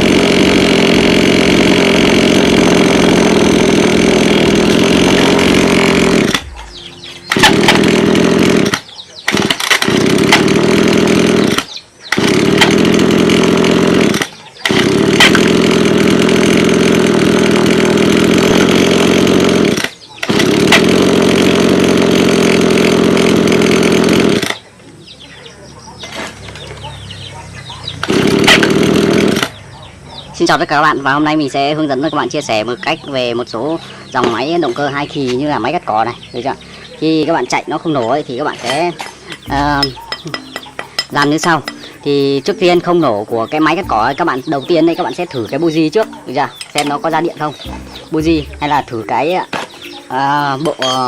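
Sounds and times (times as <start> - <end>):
two-stroke grass cutter engine: 0.0 - 24.8, 26.0 - 29.8, 30.4 - 51.0.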